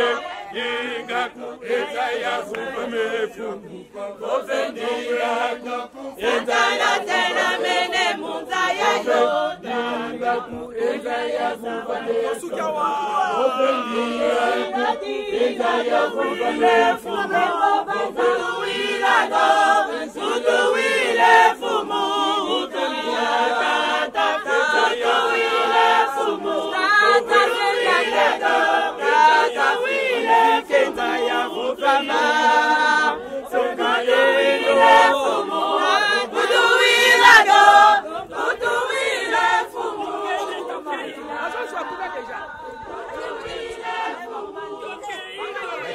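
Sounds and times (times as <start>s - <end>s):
choir singing a hymn: 0.0s - 45.9s.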